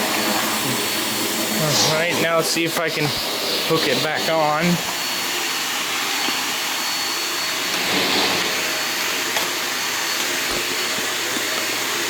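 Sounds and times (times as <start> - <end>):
vacuum cleaner motor running: 0.0 - 12.0.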